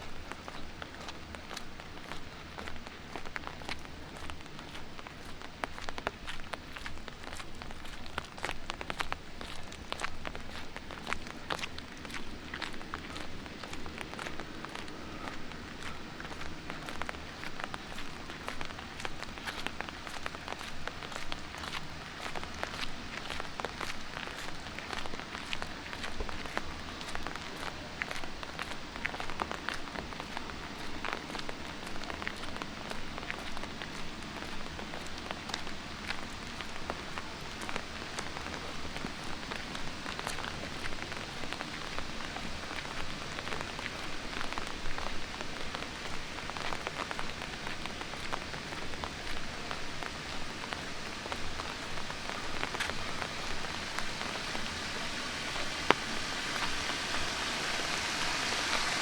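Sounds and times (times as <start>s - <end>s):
light rain on pavement: 0.0s - 59.0s.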